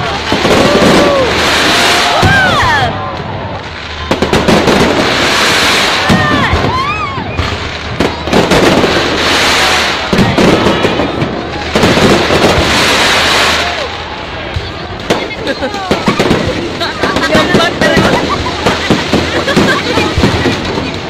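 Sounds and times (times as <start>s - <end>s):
fireworks crackling and bursting: 0.0s - 21.0s.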